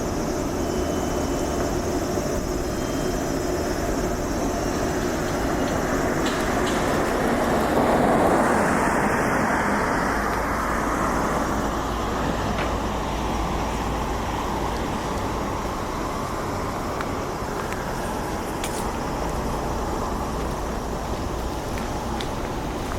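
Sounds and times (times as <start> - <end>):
traffic hum: 0.0 - 22.9.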